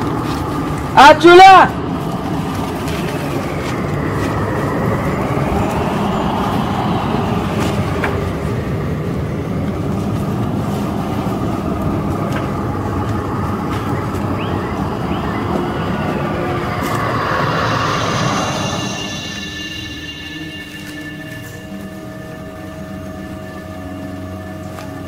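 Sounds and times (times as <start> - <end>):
low rumbling drone: 0.0 - 1.0, 1.7 - 25.0
high wavering tone: 2.3 - 25.0.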